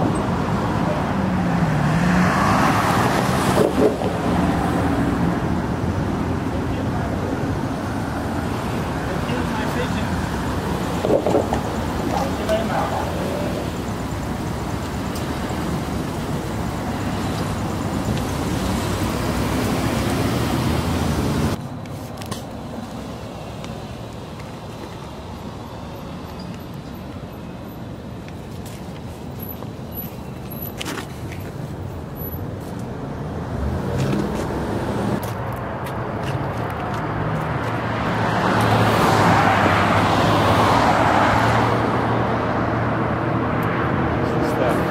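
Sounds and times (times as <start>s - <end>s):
street traffic rumble: 0.0s - 44.9s.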